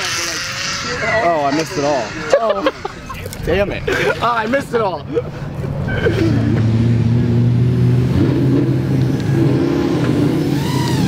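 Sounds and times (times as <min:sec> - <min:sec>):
car engines idling: 0:00.0 - 0:11.0.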